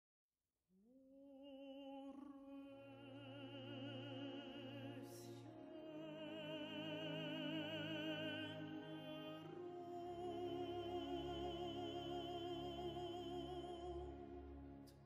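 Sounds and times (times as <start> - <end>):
slow classical music: 1.4 - 15.0.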